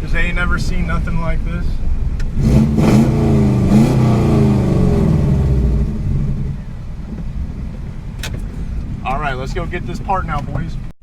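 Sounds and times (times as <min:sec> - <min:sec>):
car engine revving: 0:00.4 - 0:10.6.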